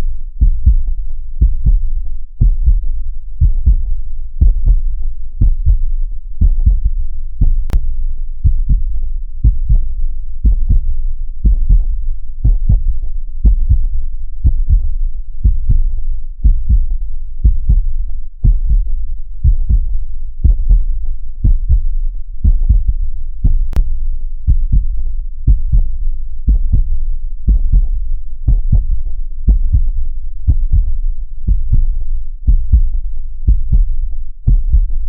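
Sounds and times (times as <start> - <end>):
low rumble: 0.0 - 35.0
heartbeat: 0.4 - 35.0.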